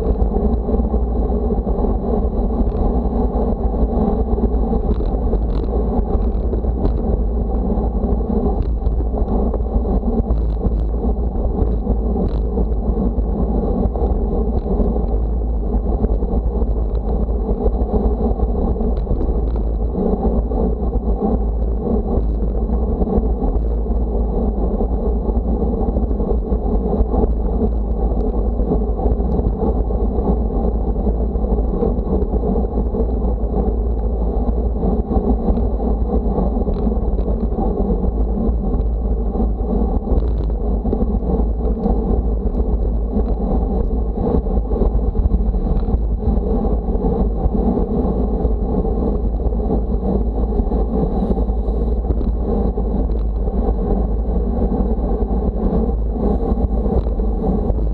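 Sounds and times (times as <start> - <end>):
road noise rumble: 0.0 - 57.9
wind buffeting microphone: 0.0 - 57.9.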